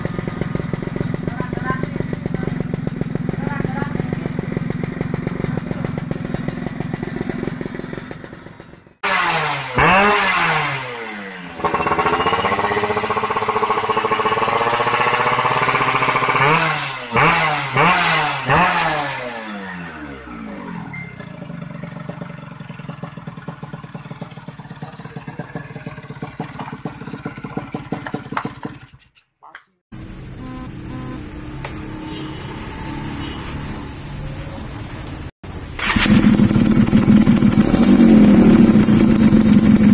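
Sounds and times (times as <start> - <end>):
motorcycle engine revving: 0.0 - 29.0, 29.9 - 39.9.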